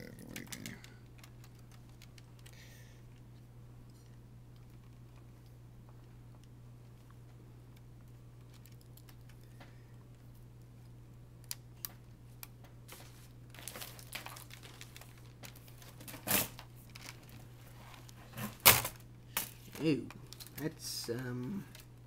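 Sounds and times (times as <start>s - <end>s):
steady low hum: 0.0s - 22.0s
plastic clicks and crinkling: 0.2s - 3.3s, 3.9s - 9.7s, 10.8s - 22.0s.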